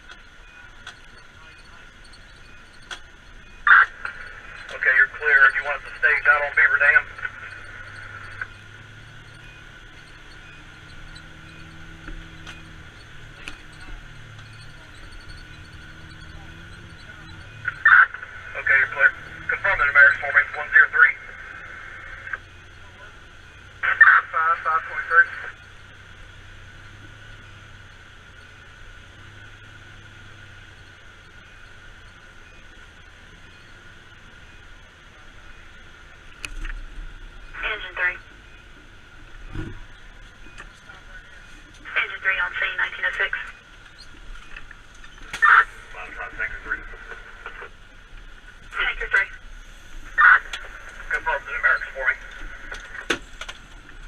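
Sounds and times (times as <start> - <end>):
fire engine idling: 0.0 - 54.0
thin steady whine: 0.0 - 54.0.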